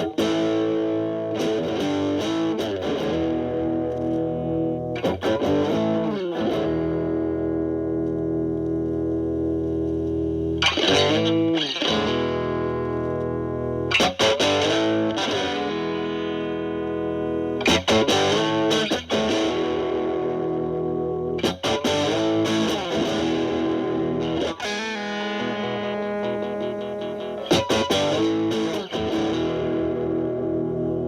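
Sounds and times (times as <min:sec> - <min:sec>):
distorted electric guitar lead: 0:00.0 - 0:31.0.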